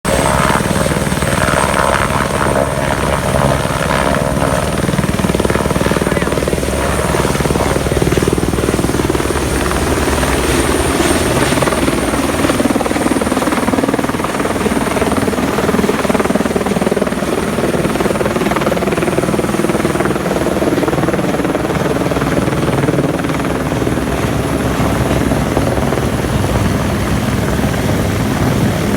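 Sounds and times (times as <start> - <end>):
helicopter rotor beating: 0.0 - 28.9.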